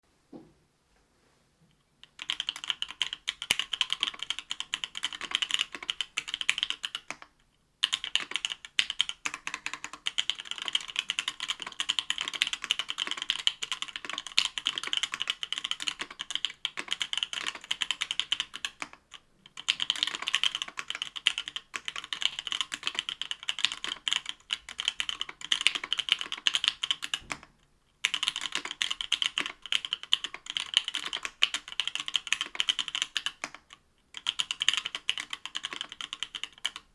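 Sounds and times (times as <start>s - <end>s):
mechanical keyboard typing: 2.0s - 36.9s.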